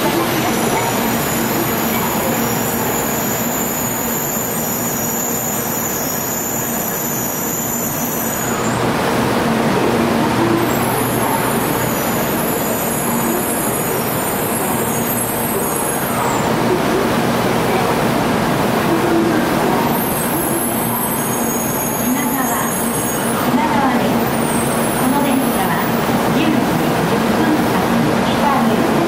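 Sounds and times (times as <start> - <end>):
train rumbling and hissing: 0.0 - 29.0.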